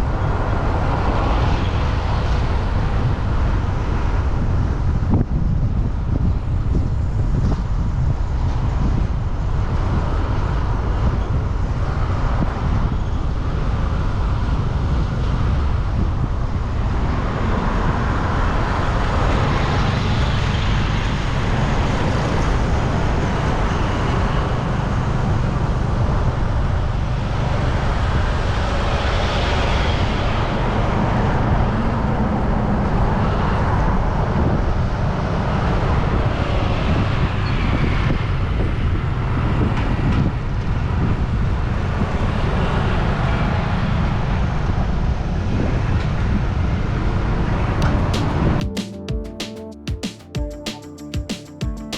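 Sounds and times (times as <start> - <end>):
low traffic rumble: 0.0 - 48.7.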